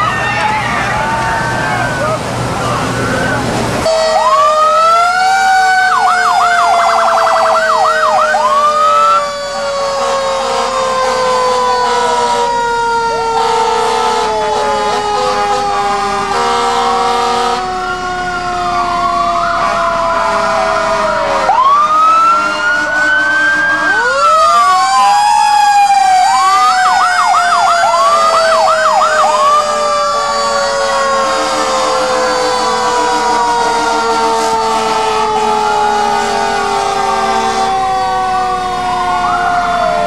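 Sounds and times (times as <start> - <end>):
fire truck sirens wailing: 0.0 - 40.0.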